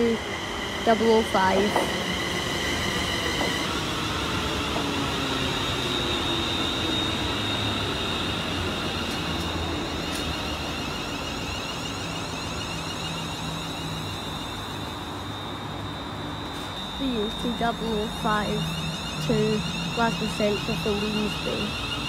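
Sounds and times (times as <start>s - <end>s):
electric train whine: 0.0s - 22.0s
wheel and motor rumble: 0.0s - 22.0s.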